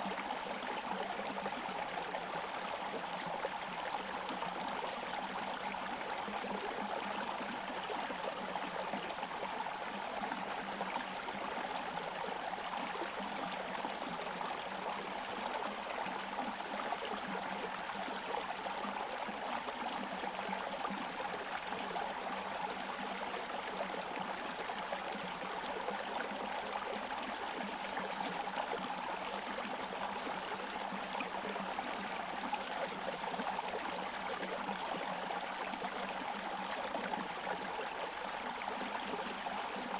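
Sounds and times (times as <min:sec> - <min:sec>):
stream water gurgling: 0:00.0 - 0:39.9.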